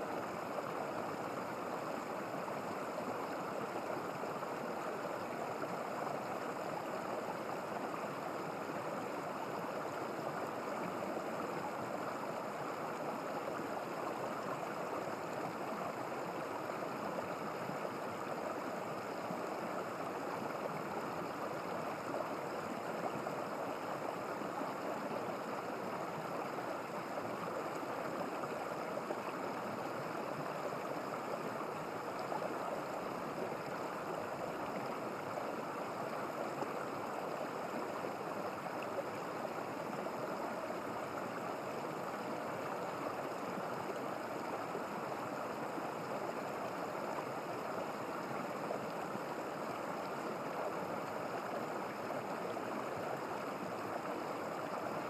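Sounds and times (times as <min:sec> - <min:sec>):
stream water over rocks: 0:00.0 - 0:55.0.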